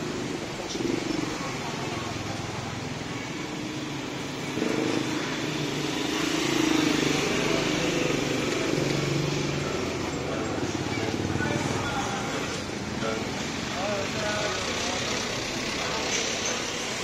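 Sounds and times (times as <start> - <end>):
small motorcycle engines passing: 0.0 - 17.0.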